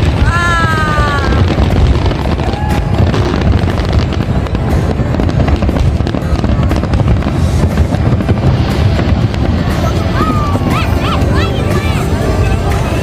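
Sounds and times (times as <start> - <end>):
fireworks cracking and crackling: 0.0 - 13.0
music playing: 0.0 - 13.0.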